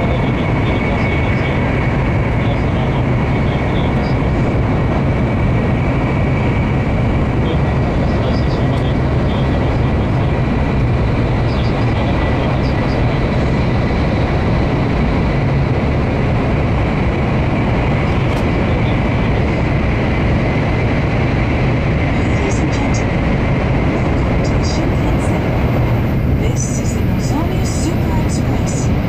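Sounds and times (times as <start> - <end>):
train cabin rumble: 0.0 - 29.0.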